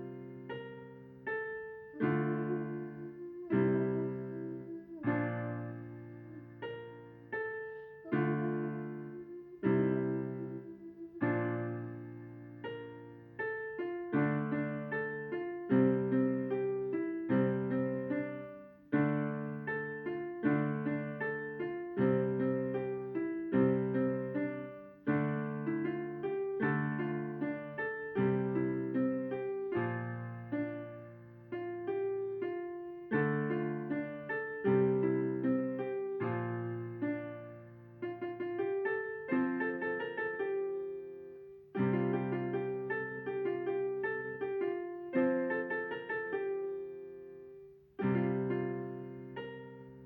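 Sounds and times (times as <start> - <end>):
slow piano chords: 0.0 - 50.0.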